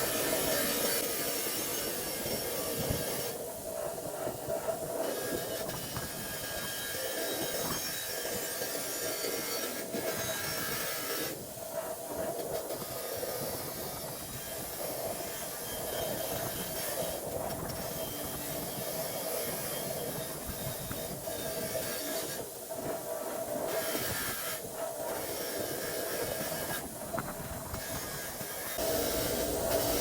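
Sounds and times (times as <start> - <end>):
wire wheel scrubbing metal: 0.0 - 30.0.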